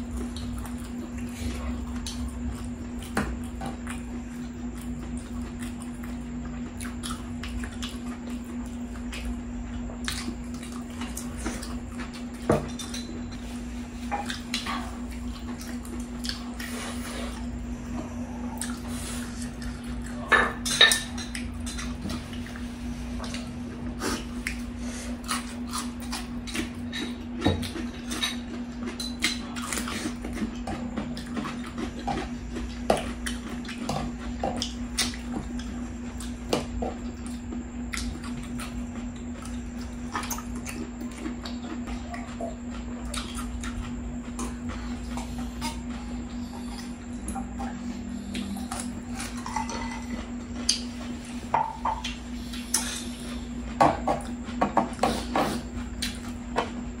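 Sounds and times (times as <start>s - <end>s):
chewing: 0.0s - 56.8s
steady low hum: 0.0s - 57.0s.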